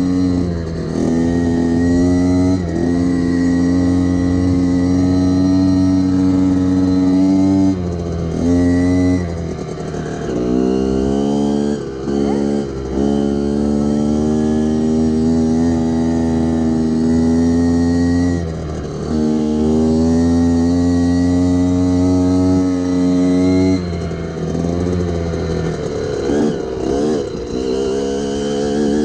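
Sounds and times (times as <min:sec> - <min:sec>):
small motorbike engine revving: 0:00.0 - 0:29.0.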